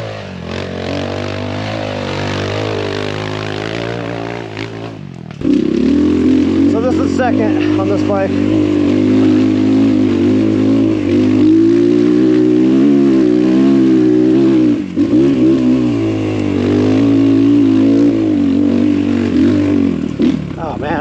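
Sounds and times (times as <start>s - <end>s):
motorcycle engine running under load: 0.0s - 21.0s.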